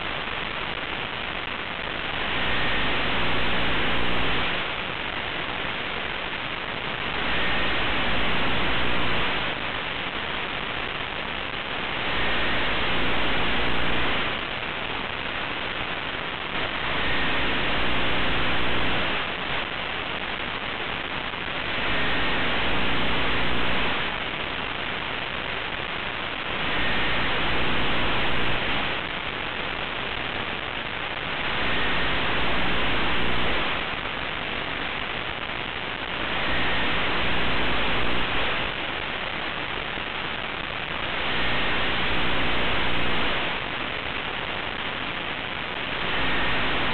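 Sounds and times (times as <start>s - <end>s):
static hiss: 0.0s - 46.9s.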